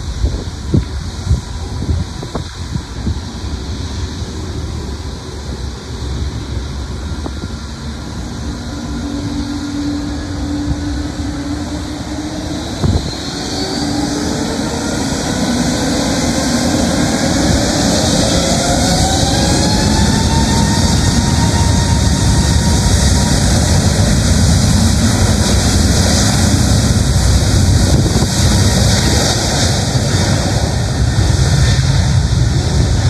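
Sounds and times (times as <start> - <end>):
jet engines spooling up: 0.0 - 33.0
wind buffeting microphone: 0.0 - 33.0.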